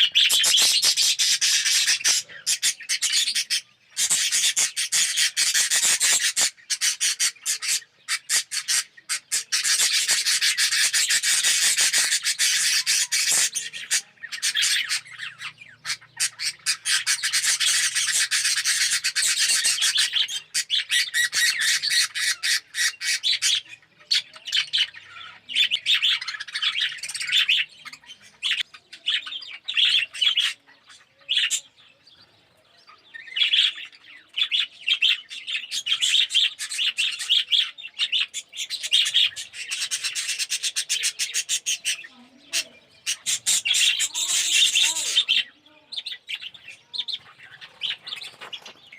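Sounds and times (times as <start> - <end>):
budgerigars chattering and warbling: 0.0 - 48.9.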